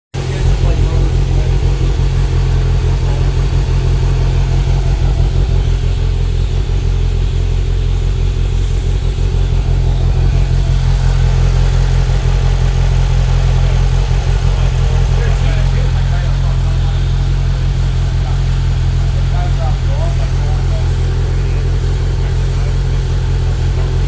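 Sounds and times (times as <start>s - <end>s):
car engine idling rough: 0.1s - 24.0s.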